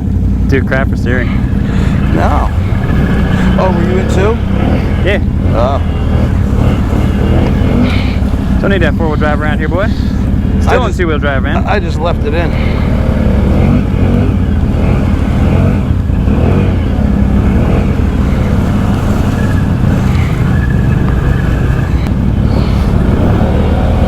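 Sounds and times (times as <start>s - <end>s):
driving through mud and water: 0.0s - 24.0s
engine running under load: 0.0s - 24.0s.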